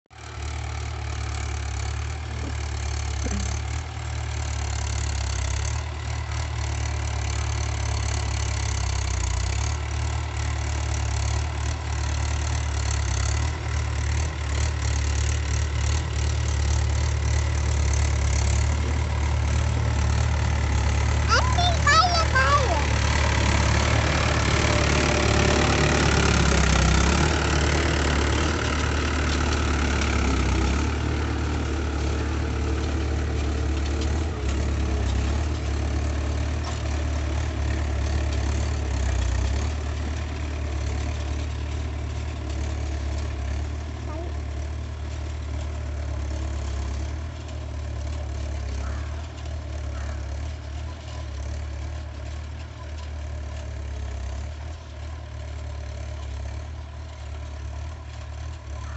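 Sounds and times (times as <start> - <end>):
tractor engine running: 0.1 - 58.9.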